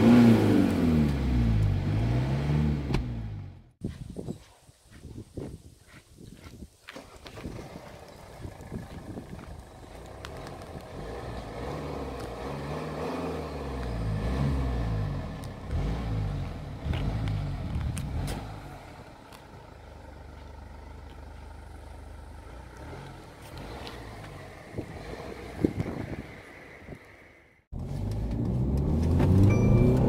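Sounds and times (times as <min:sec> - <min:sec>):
diesel engine revving and idling: 0:00.0 - 0:03.8, 0:07.0 - 0:30.0.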